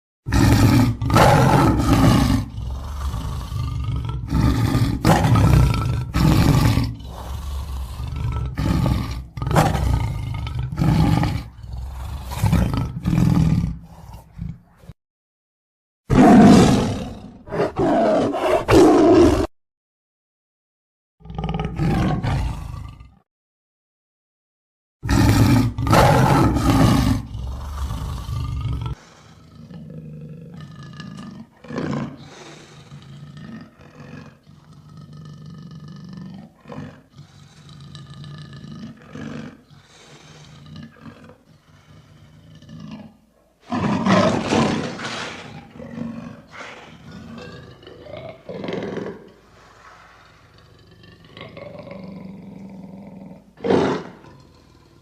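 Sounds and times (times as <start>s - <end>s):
big cat growling and grunting: 0.3s - 15.0s, 16.1s - 19.5s, 21.2s - 23.3s, 25.0s - 55.0s
big cat roaring: 0.3s - 15.0s, 16.1s - 19.5s, 21.2s - 23.2s, 25.0s - 55.0s.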